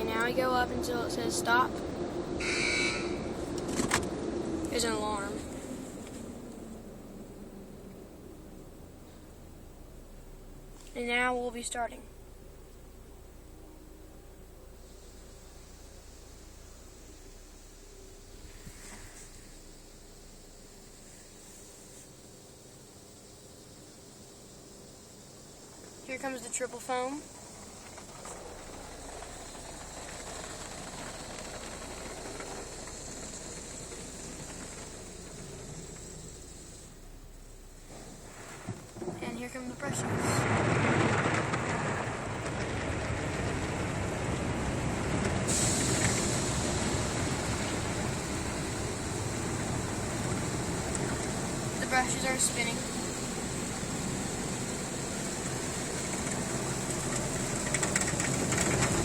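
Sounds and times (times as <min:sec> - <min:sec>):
car wash spray hissing: 0:04.5 - 0:40.6, 0:43.6 - 0:59.0.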